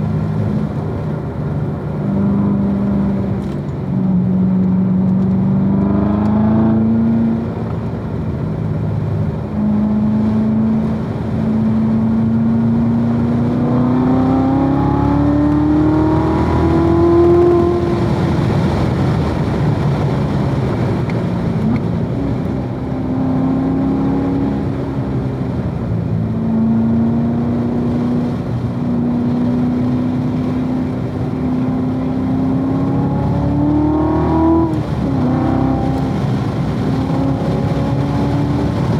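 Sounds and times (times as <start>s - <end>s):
car engine revving under acceleration: 0.0s - 38.9s.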